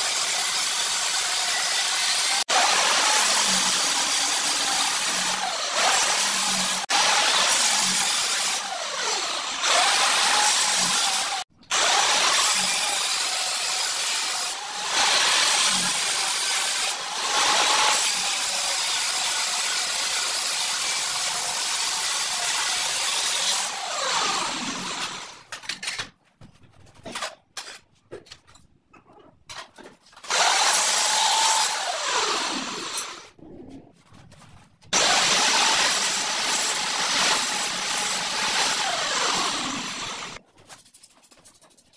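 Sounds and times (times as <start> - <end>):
angle grinder cutting tile: 0.0 - 26.0, 30.2 - 33.4, 34.9 - 40.4.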